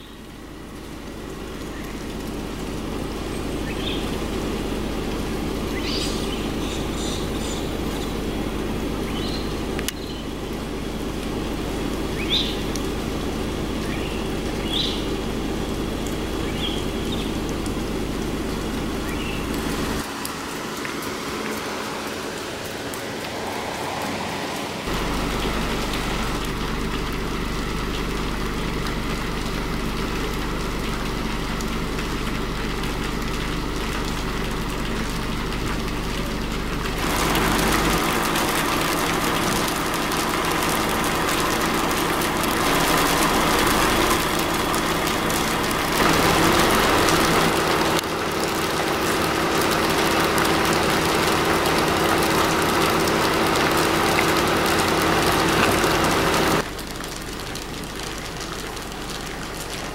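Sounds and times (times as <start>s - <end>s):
low steady hum: 0.0s - 22.3s, 24.8s - 59.9s
hiss of light drizzle: 0.0s - 59.9s.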